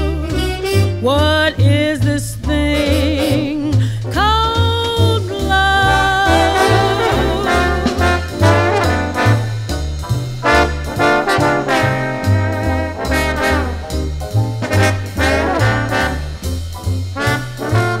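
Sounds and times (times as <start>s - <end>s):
drums: 0.0s - 18.0s
swing jazz band: 0.0s - 18.0s
walking bass line: 0.0s - 18.0s.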